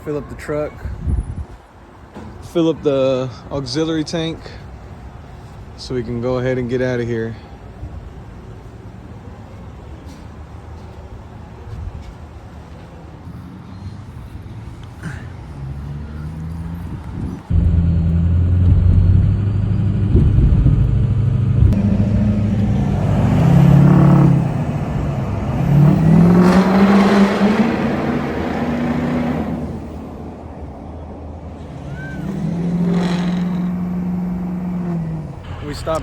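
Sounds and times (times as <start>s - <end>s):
diesel truck accelerating: 0.0s - 36.0s.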